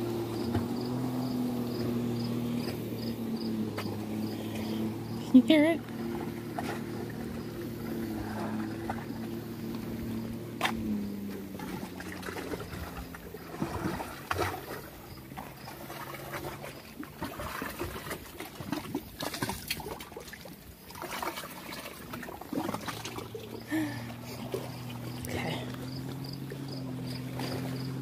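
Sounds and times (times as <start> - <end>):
steady low hum: 0.0 - 28.0
water lapping against rock: 0.0 - 28.0.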